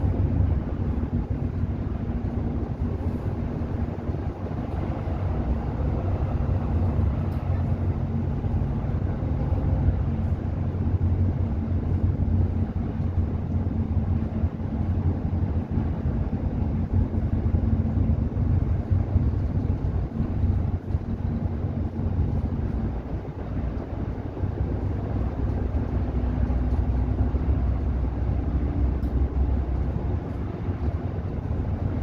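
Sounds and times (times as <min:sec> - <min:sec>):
bus engine drone: 0:00.0 - 0:32.0
road rumble: 0:00.0 - 0:32.0.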